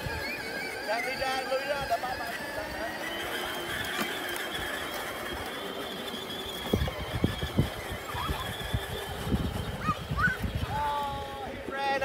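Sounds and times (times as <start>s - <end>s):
electric motor whine: 0.0s - 11.7s.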